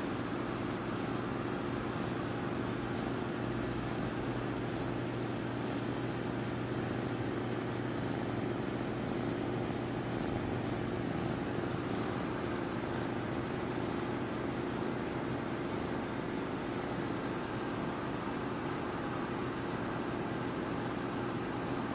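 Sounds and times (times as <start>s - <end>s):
kitten purring: 0.0s - 0.3s, 0.9s - 20.1s, 20.7s - 21.1s.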